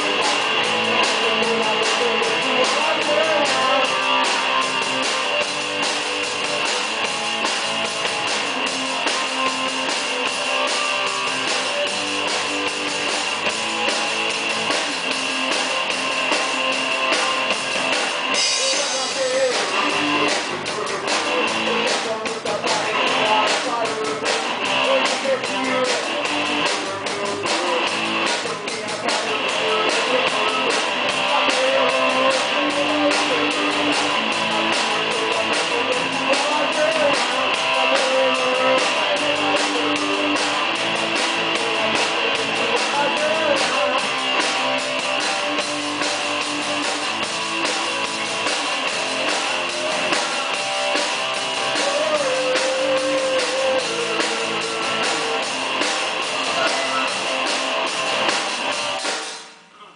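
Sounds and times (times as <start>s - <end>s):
person singing: 0.0s - 7.1s, 14.2s - 58.8s
rock band playing live: 0.0s - 59.7s.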